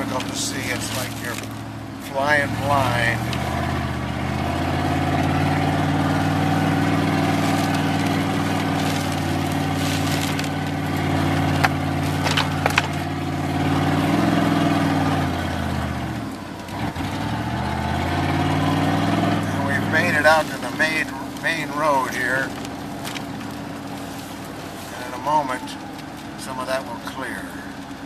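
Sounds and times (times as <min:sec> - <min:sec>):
truck engine running under load: 0:00.0 - 0:28.0.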